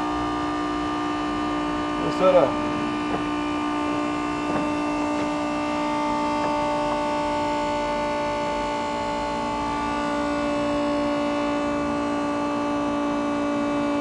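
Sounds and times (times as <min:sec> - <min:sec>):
electric fuel pump humming: 0:00.0 - 0:14.0.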